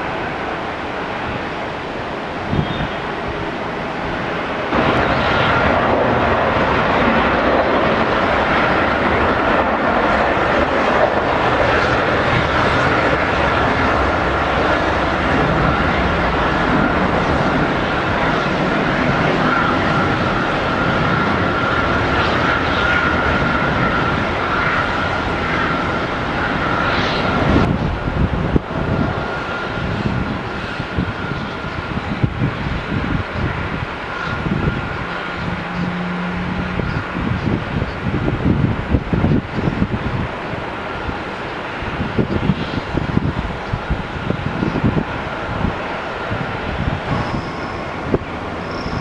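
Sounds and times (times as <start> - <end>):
jet engines rumbling and whining: 0.0 - 49.0.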